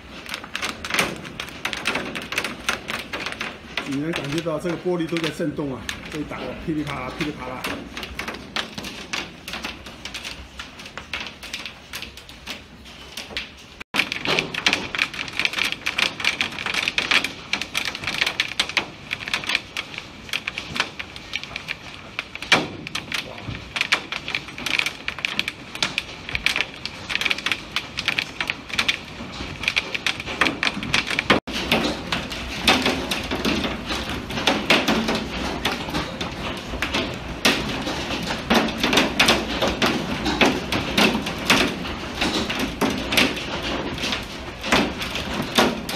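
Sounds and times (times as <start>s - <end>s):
hail clattering on window: 0.0s - 45.9s.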